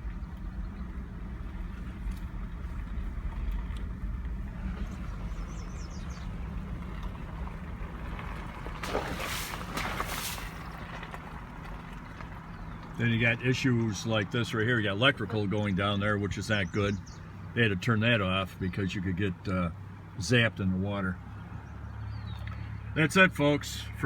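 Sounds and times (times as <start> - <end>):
engine running at low speed: 0.0 - 24.0.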